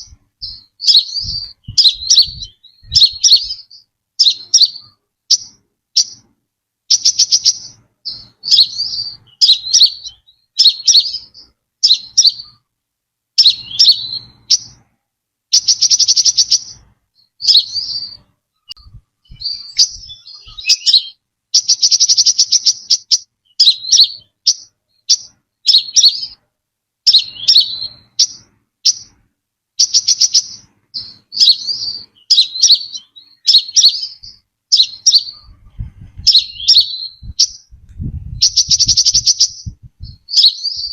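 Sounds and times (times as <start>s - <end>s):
bird chirping and trilling: 0.0s - 6.3s, 6.9s - 12.6s, 13.4s - 14.8s, 15.5s - 29.2s, 29.8s - 40.9s.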